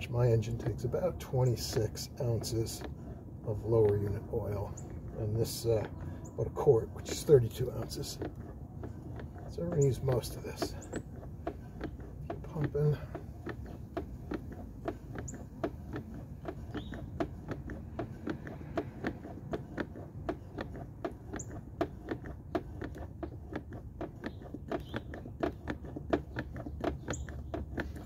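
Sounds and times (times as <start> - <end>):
hand pump clicking: 0.0 - 28.0.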